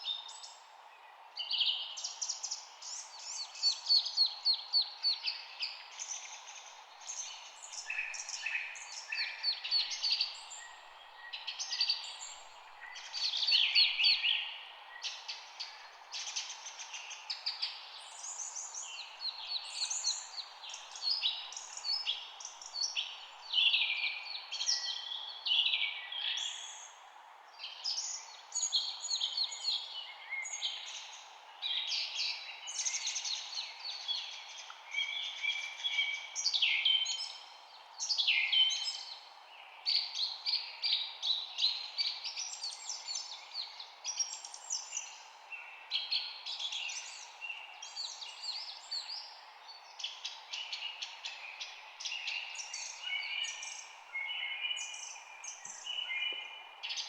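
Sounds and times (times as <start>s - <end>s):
faint steady hiss: 0.0s - 57.0s
songbirds chirping: 0.0s - 57.0s.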